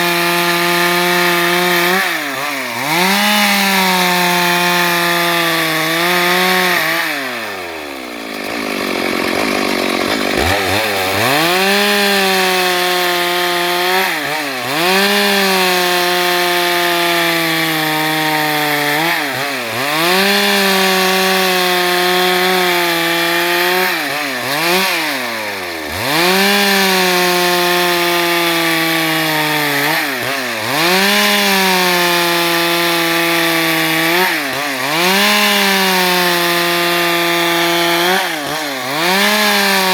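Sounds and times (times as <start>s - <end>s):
chainsaw sawing planks: 0.0s - 39.9s.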